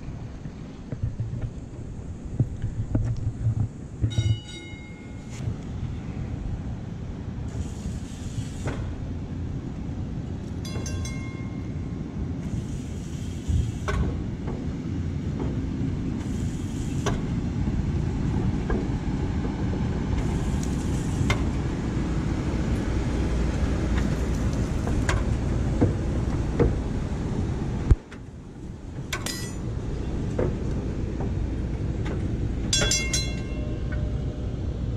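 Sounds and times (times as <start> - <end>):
streetcar rumbling on track: 0.0 - 34.9
wheels clicking on rails: 0.0 - 34.9.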